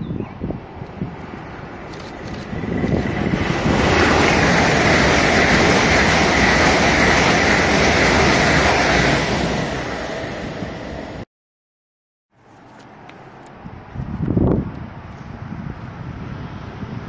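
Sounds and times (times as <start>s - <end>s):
high-speed train passing: 0.3s - 11.3s, 13.6s - 17.0s.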